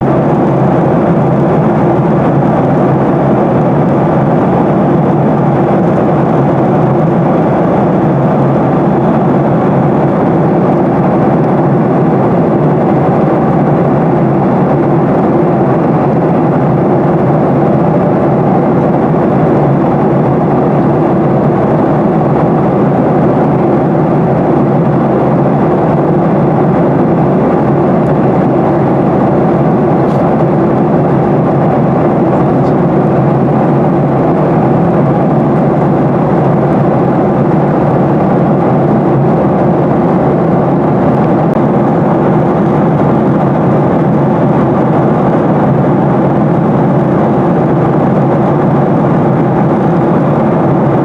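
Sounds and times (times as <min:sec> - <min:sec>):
loud rushing drone: 0:00.0 - 0:51.0.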